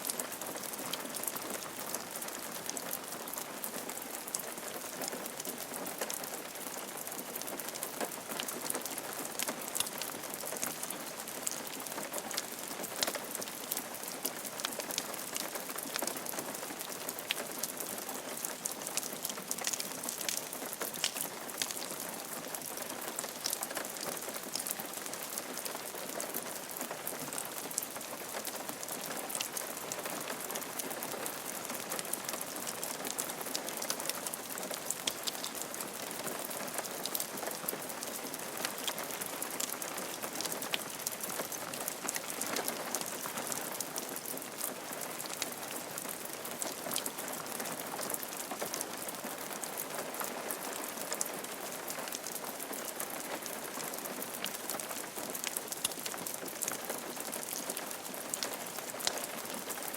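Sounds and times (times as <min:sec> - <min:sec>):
rain pattering on a roof: 0:00.0 - 0:59.9.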